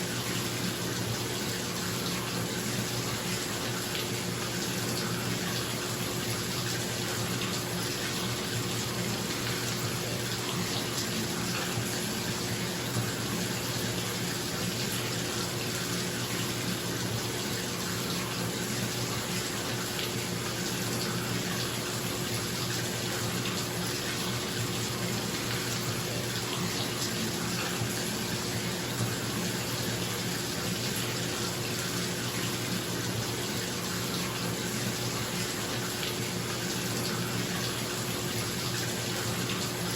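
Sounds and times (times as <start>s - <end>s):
faucet running into tub: 0.0s - 39.9s.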